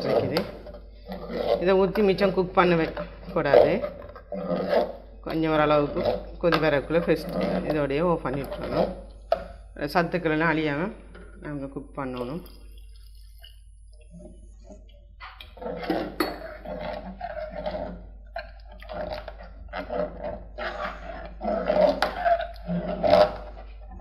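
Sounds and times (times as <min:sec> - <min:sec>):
ladle scraping a pot: 0:00.0 - 0:09.7, 0:11.0 - 0:24.0
porridge squelching: 0:00.0 - 0:24.0.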